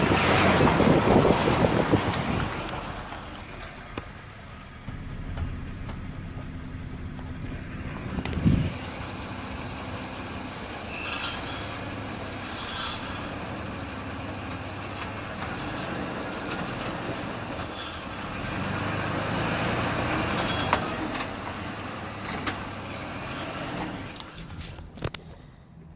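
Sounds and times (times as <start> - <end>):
exhaust heat shield rattle: 0.0 - 25.5
van engine running: 0.0 - 25.9.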